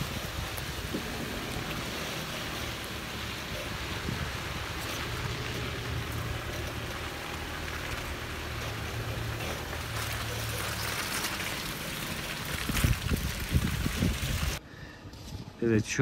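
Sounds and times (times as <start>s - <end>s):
tyre and road noise: 0.0s - 16.0s
vehicle engine running: 0.2s - 13.8s.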